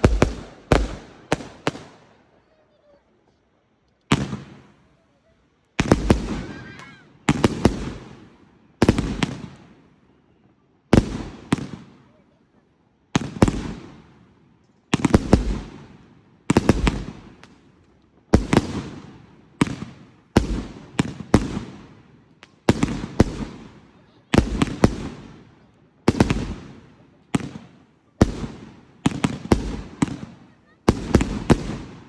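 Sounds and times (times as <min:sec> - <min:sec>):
fireworks bursting: 0:00.0 - 0:12.2, 0:13.1 - 0:32.0.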